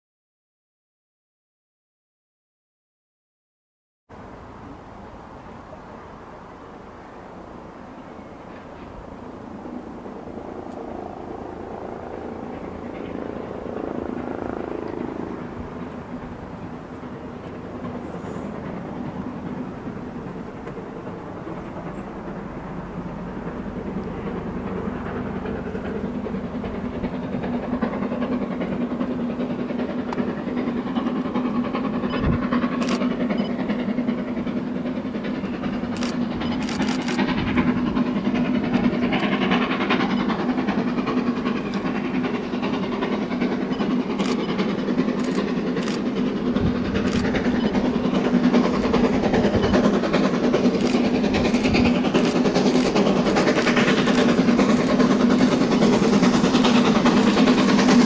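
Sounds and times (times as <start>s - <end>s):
steam locomotive exhaust: 4.2s - 58.0s.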